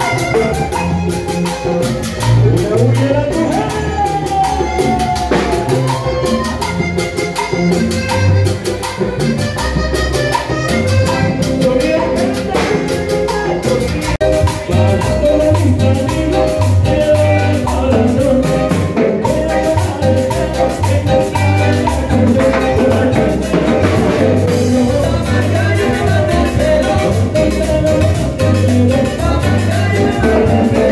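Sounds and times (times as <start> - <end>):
drum kit: 0.0 - 30.9
keyboard: 0.0 - 30.9
pulsing bass line: 0.0 - 30.9.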